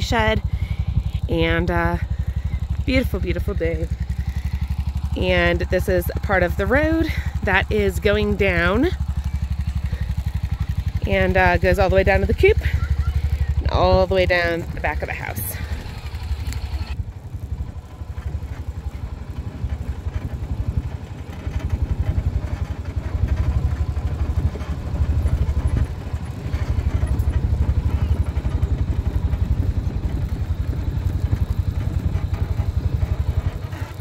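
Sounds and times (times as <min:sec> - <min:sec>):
utility vehicle engine throbbing: 0:00.0 - 0:34.0.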